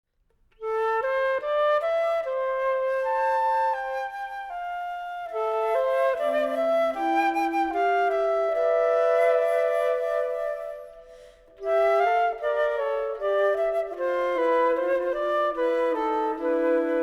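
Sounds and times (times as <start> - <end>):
flutes playing in harmony: 0.6 - 17.0.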